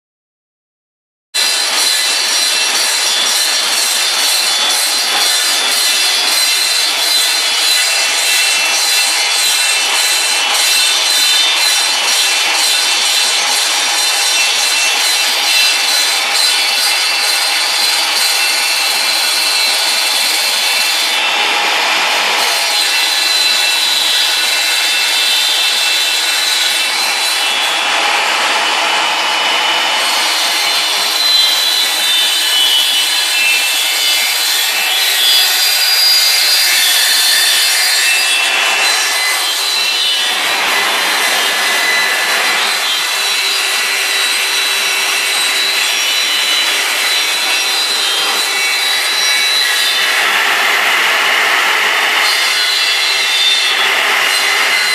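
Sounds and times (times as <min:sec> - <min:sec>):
lathe saw cutting wood: 0:01.4 - 0:54.9.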